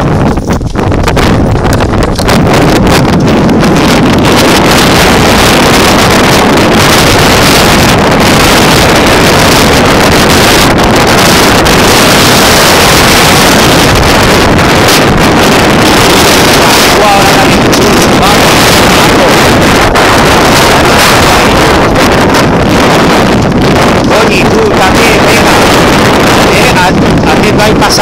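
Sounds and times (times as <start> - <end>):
heavy wind buffeting microphone: 0.0 - 28.0.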